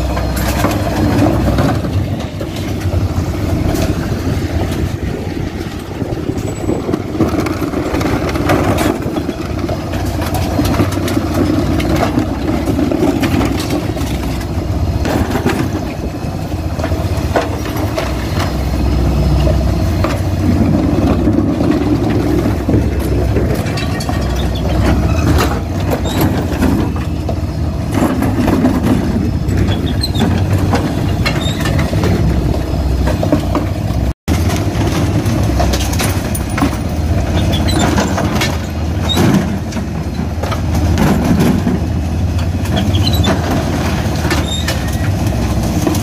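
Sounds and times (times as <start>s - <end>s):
refuse lorry engine and hydraulics: 0.0s - 46.0s
plastic wheelie bins clattering: 6.0s - 18.6s, 19.5s - 33.7s, 34.3s - 46.0s.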